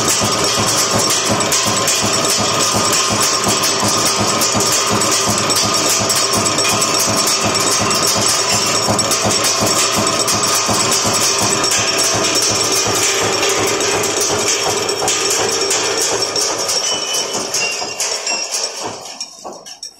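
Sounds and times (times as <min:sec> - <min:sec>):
nail making machine clattering: 0:00.0 - 0:19.9.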